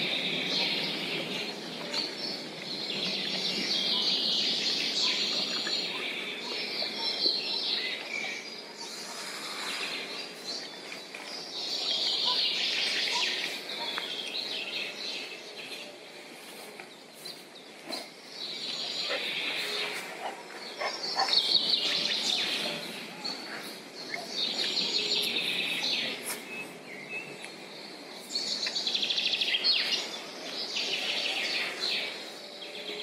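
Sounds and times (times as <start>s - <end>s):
low background noise: 0.0s - 33.0s
songbirds chirping and singing: 0.0s - 33.0s.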